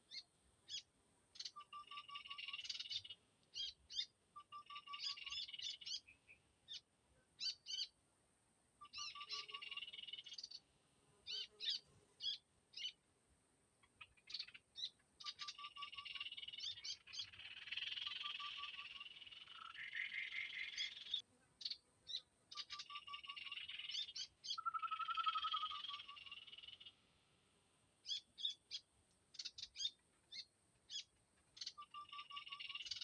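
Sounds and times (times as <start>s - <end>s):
songbirds chirping and trilling: 0.0s - 8.0s, 8.8s - 13.1s, 13.8s - 33.0s.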